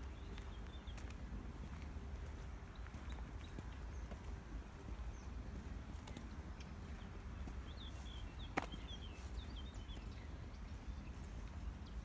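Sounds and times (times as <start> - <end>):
footsteps on dirt track: 0.0 - 12.0.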